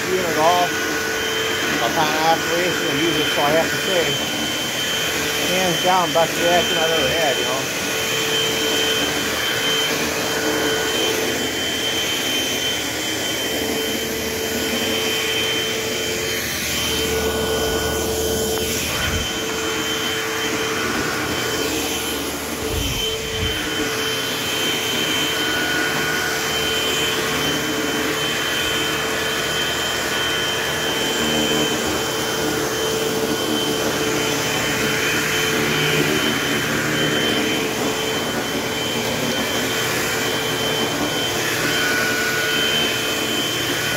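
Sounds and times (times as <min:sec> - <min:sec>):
vacuum cleaner motor whine: 0:00.0 - 0:43.9.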